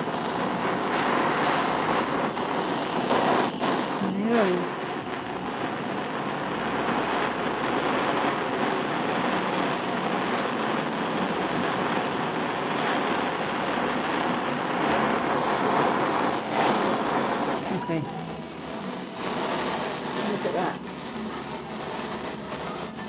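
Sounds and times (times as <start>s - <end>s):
gas torch hissing: 0.0s - 23.0s.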